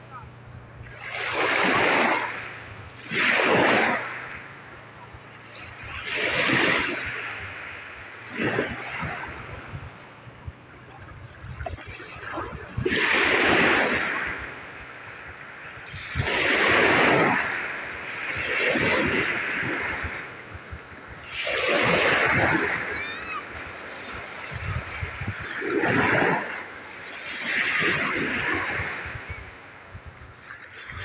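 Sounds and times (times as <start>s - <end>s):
waves washing over rocks: 0.0s - 31.0s.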